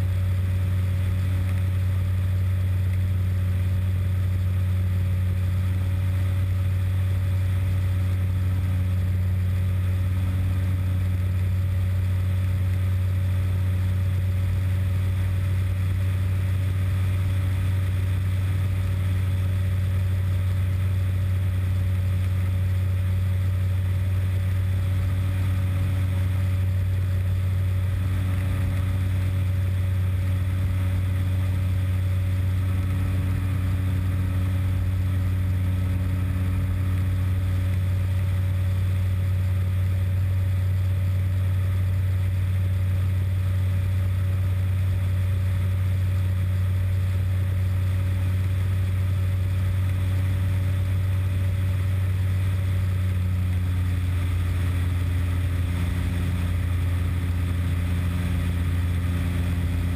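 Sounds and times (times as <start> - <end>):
aircraft engine humming: 0.0 - 59.9.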